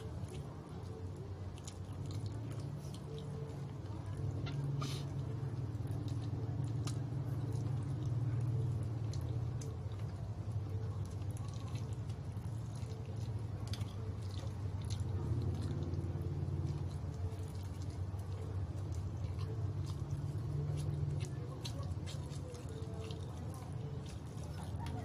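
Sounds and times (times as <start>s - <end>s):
low background hum: 0.0s - 25.0s
wet mouth clicks and smacks: 1.5s - 8.2s, 11.0s - 25.0s.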